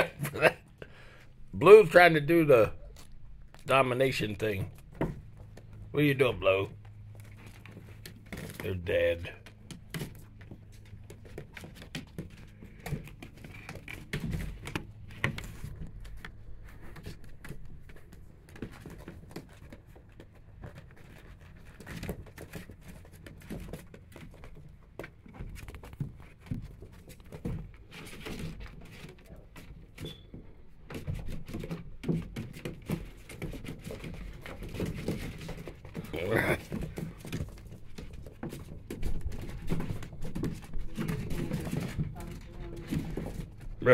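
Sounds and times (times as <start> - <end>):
puppy claws scrabbling: 6.7 - 43.9.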